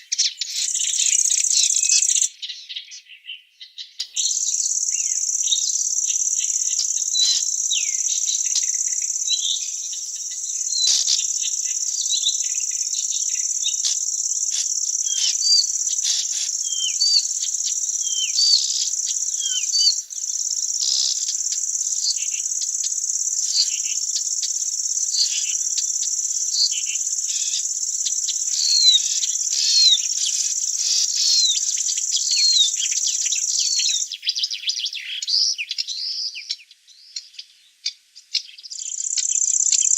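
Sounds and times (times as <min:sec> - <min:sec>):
high insect trill: 0:00.4 - 0:02.3, 0:04.2 - 0:34.4.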